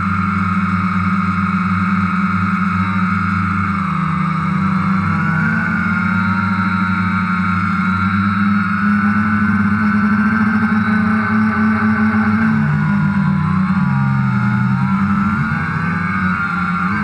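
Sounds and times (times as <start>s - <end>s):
drone propellers buzzing whine: 0.0s - 17.0s.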